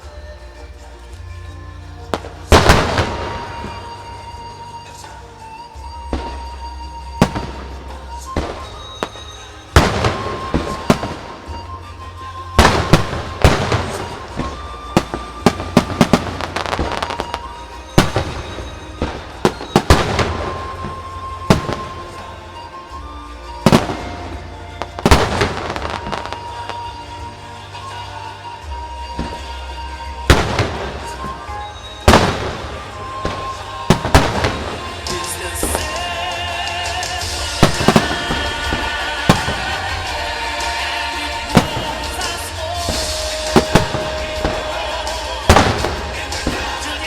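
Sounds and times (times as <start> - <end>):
fireworks bursting with crackle: 0.0 - 47.0
music playing: 0.0 - 47.0.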